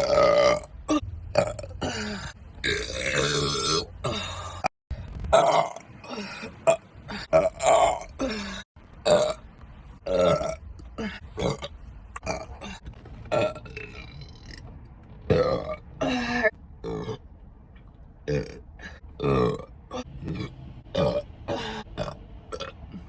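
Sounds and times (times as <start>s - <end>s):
person burping: 0.0s - 4.7s, 5.3s - 9.4s, 10.0s - 14.5s, 15.3s - 17.2s, 18.3s - 23.0s.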